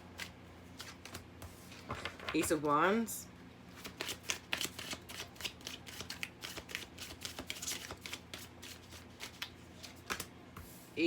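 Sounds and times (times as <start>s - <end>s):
cards being shuffled: 0.1s - 2.4s, 3.8s - 10.7s.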